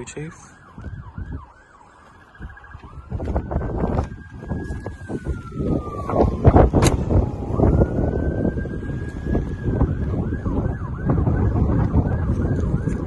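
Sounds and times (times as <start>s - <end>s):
emergency vehicle siren: 0.0s - 13.0s.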